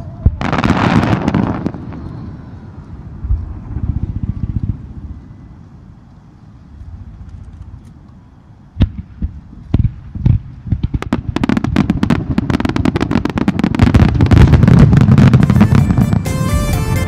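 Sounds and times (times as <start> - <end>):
fireworks bangs: 0.0 - 5.6, 8.7 - 17.0.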